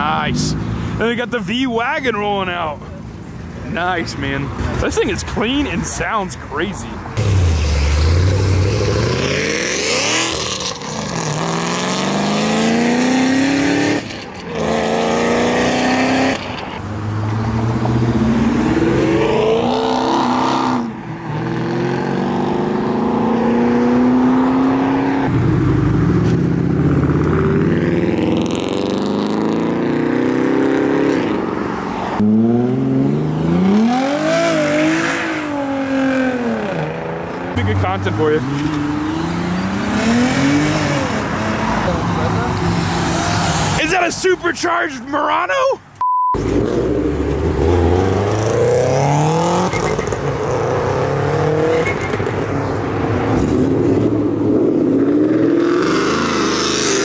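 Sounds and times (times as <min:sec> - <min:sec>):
car engines accelerating hard: 0:00.0 - 0:44.0, 0:46.4 - 0:57.0.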